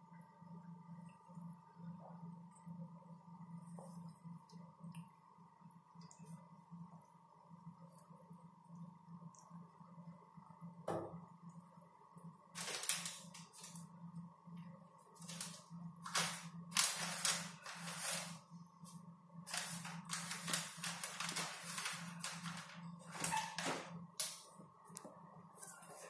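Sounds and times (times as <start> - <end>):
steady low hum: 0.0 - 23.2, 23.8 - 26.0.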